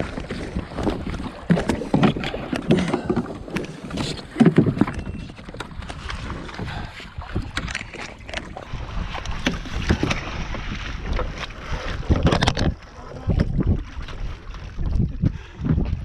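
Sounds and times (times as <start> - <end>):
water splashing against hull: 0.0 - 16.0
wind buffeting microphone: 0.0 - 16.0.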